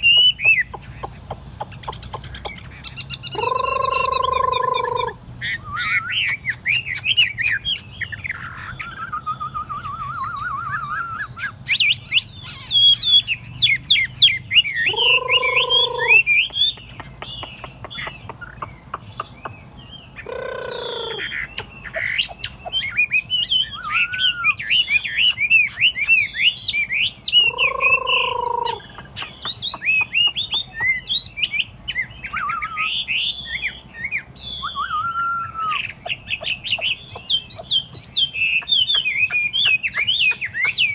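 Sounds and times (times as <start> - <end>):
bird singing whistled phrases: 2.6 - 16.8, 20.2 - 40.9.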